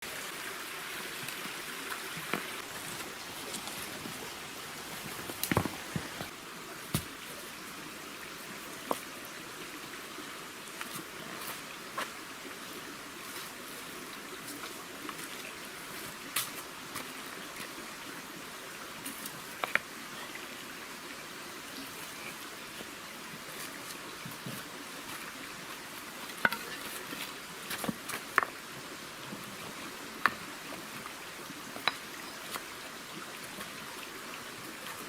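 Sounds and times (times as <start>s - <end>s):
stream rushing: 0.0s - 35.0s.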